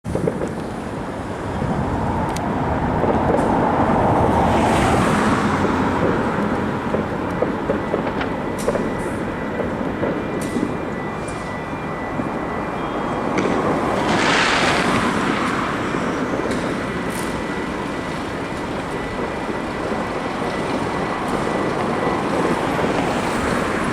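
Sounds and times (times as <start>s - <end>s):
road traffic: 0.0s - 23.9s.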